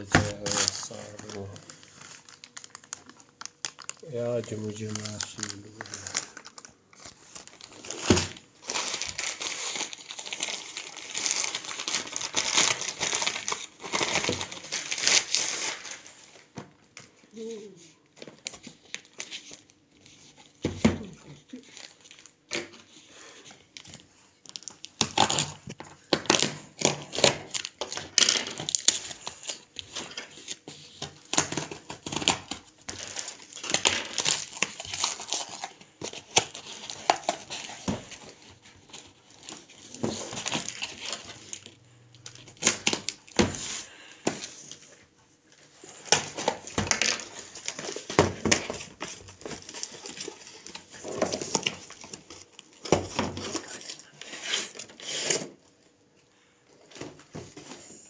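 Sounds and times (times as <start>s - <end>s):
plastic wrapping crinkling and tearing: 0.0s - 55.9s.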